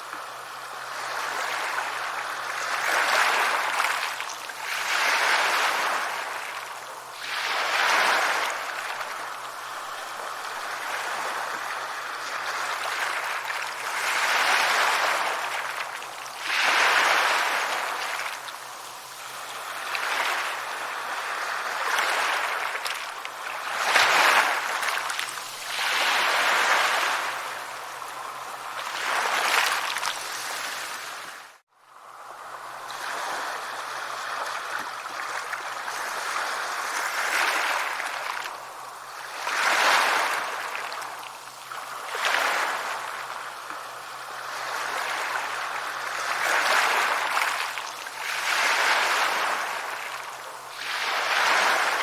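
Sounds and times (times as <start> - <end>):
sea waves washing onto shore: 0.0 - 52.0.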